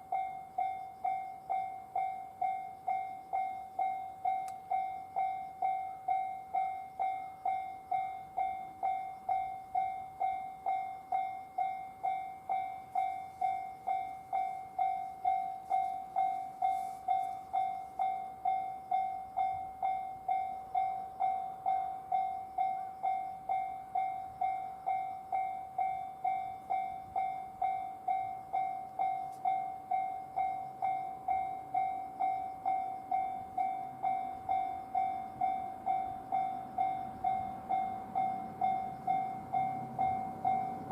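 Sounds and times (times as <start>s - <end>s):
level-crossing warning bell ringing: 0.0s - 40.9s.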